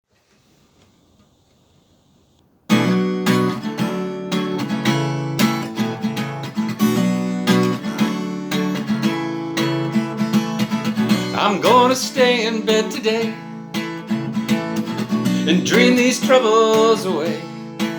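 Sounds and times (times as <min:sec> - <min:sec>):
acoustic guitar strumming chords: 0:02.7 - 0:17.9.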